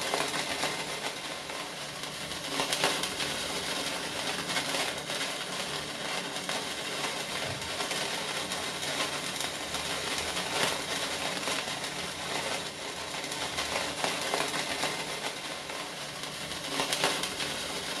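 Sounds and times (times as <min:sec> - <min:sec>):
sparklers crackling and hissing: 0:00.0 - 0:18.0.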